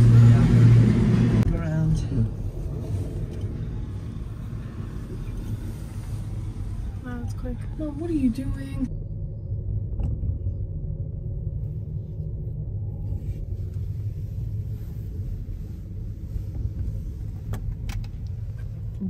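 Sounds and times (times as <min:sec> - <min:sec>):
gondola cabin rumble: 0:00.0 - 0:19.0.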